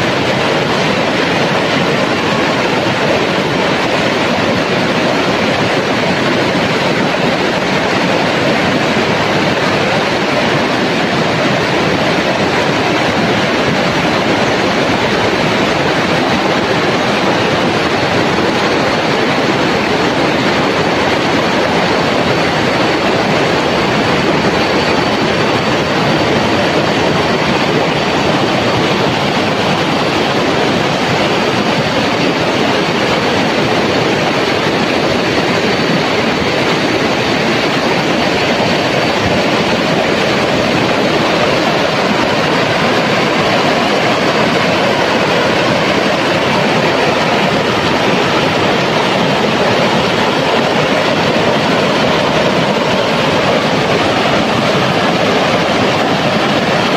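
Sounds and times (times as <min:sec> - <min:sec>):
river rushing over rocks: 0:00.0 - 0:56.9.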